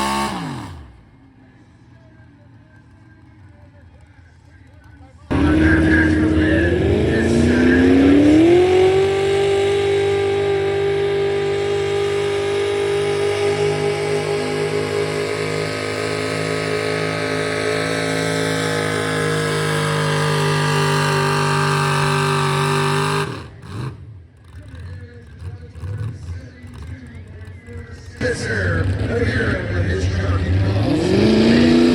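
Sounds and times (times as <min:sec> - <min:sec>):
truck engine at full throttle: 0:00.0 - 0:31.9.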